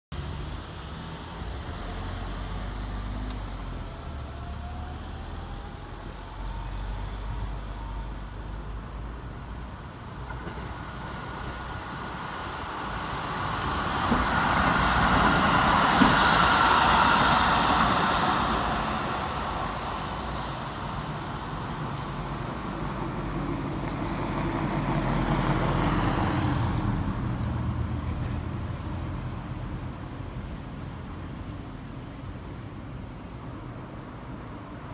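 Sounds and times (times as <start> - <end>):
electric train running past: 0.2 - 34.9.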